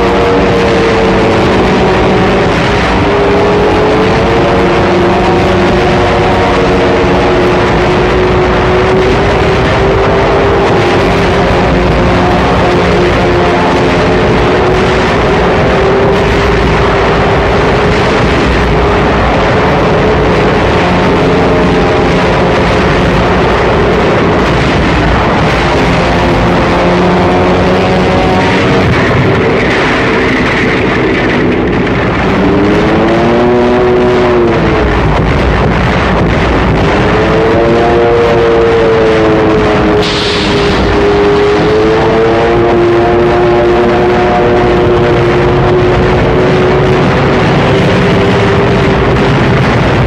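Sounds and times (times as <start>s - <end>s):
aircraft engines droning: 0.0s - 50.0s
continuous rushing noise: 0.0s - 50.0s.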